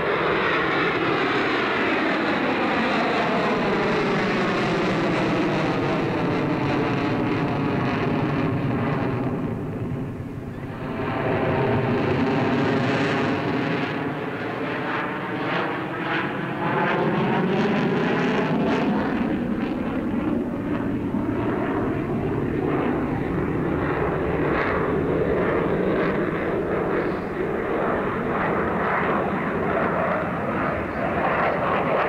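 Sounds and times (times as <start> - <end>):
model airplane engine buzzing: 0.0 - 32.0.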